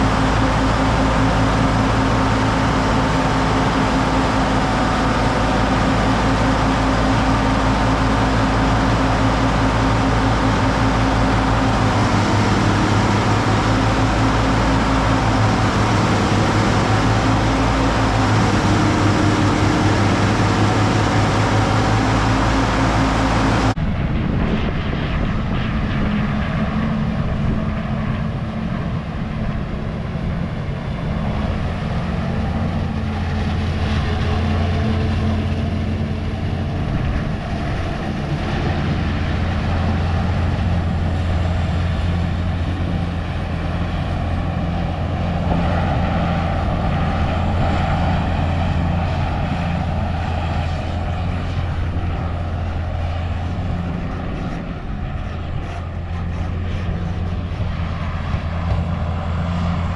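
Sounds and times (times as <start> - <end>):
tractor engine and machinery running: 0.0 - 59.9.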